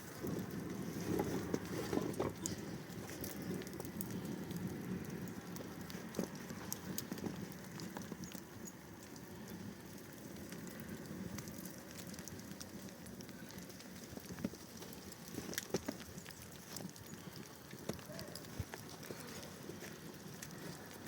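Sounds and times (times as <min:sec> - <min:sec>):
low rush of flame: 0:00.0 - 0:21.0
wood fire crackling: 0:00.0 - 0:21.0.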